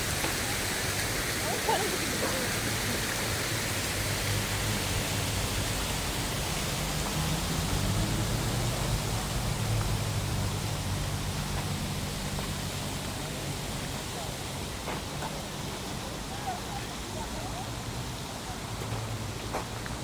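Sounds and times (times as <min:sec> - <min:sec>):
city street noise: 0:00.0 - 0:20.0.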